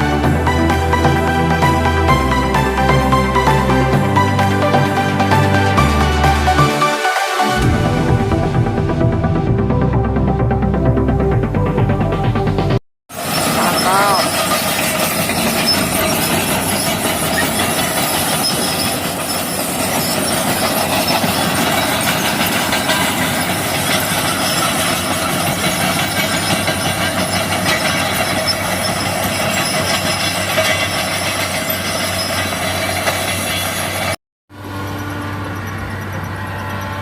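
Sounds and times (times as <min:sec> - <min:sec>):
excavator diesel engine: 0:00.0 - 0:37.0.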